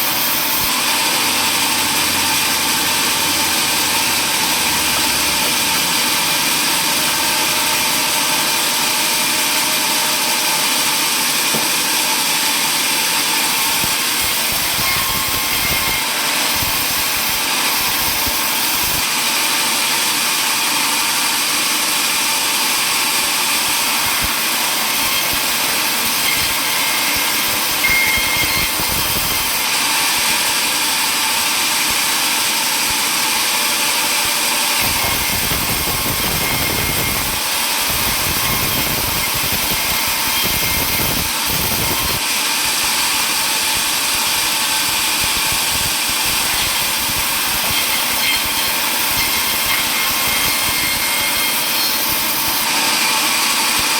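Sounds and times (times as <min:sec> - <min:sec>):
table saw running: 0:00.0 - 0:53.9.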